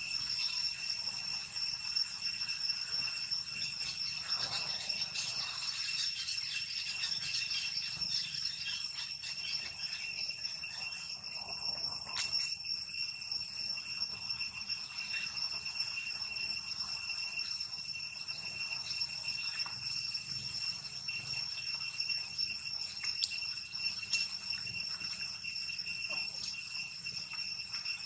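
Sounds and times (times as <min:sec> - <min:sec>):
cicada chorus droning: 0:00.0 - 0:28.0.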